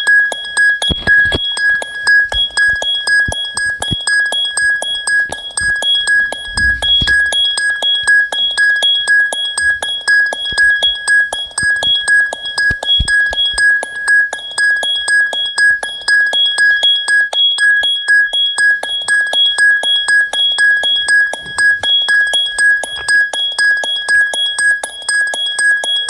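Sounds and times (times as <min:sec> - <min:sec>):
high glassy ringtone ding: 0:00.0 - 0:26.0.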